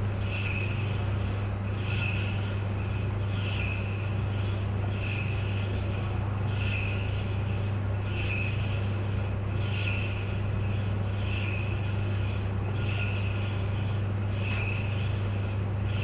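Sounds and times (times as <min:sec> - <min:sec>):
dryer motor hum: 0:00.0 - 0:16.0.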